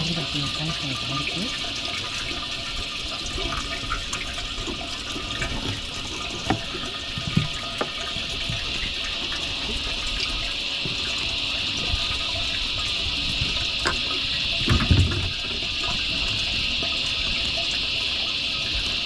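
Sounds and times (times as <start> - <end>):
water rushing around boat: 0.0 - 19.0.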